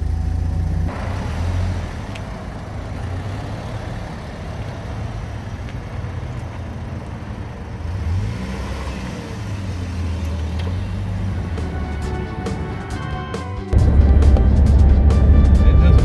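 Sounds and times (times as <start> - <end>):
car engine running: 0.0 - 13.0, 13.7 - 16.0.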